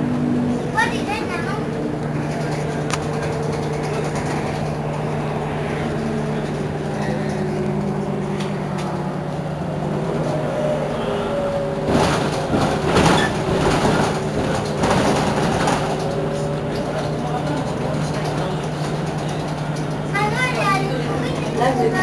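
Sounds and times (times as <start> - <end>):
bus diesel engine idling: 0.0 - 22.0
street noise: 0.0 - 22.0.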